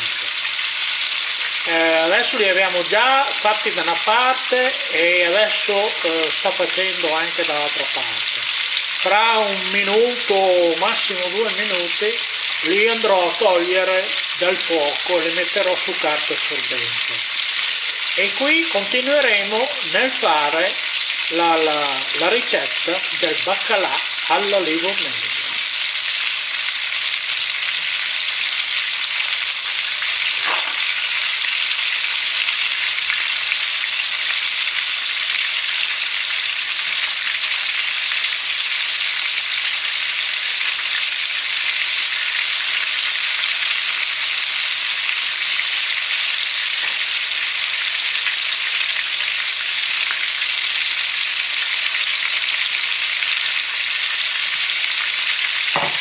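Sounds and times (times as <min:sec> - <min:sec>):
fish frying in oil: 0:00.0 - 0:56.0.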